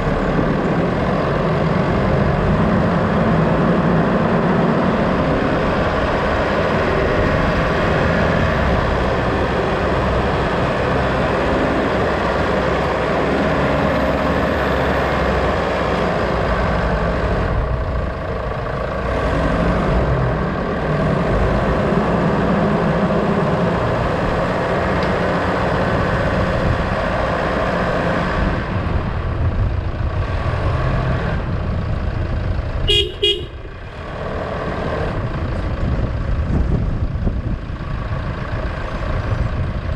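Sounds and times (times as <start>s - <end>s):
road noise: 0.0s - 39.9s
vehicle engine: 0.0s - 39.9s.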